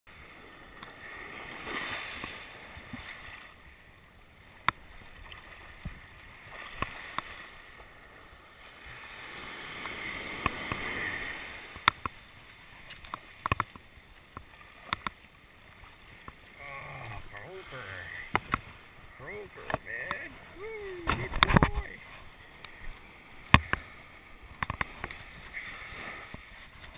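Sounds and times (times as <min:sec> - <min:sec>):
small surf washing up beach: 0:00.1 - 0:26.9.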